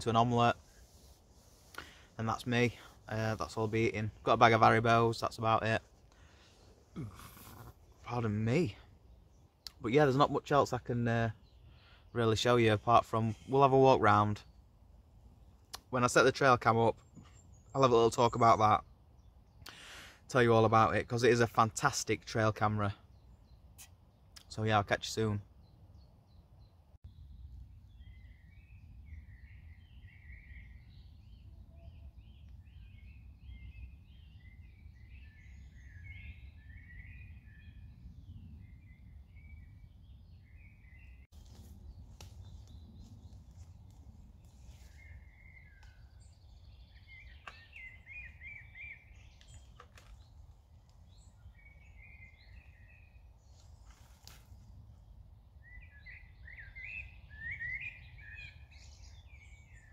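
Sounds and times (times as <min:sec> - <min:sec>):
small birds chirping and warbling: 0:00.0 - 0:59.9.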